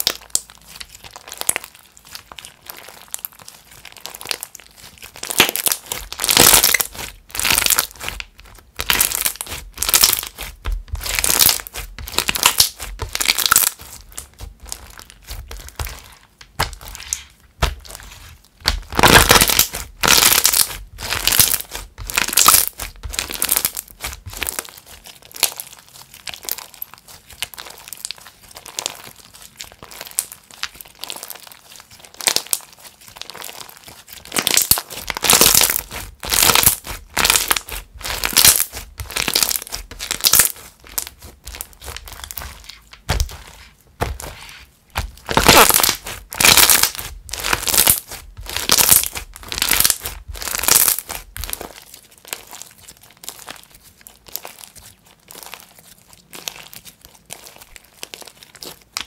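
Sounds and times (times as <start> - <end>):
slime crackling and crinkling: 0.0 - 59.0.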